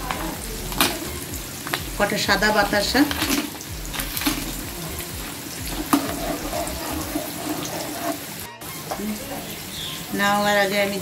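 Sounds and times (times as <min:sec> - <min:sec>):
pot bubbling and hissing: 0:00.0 - 0:11.0.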